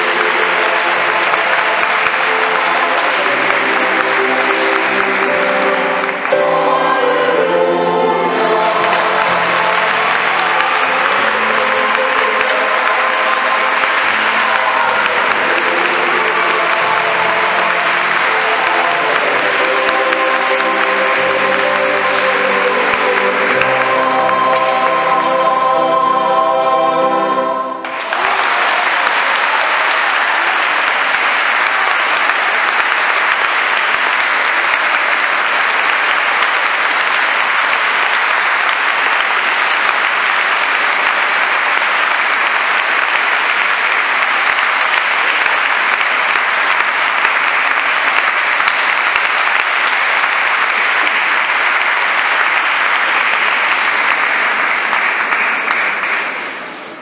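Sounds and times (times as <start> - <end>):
choir holding a chord: 0.0 - 55.3
audience applause: 0.0 - 57.0.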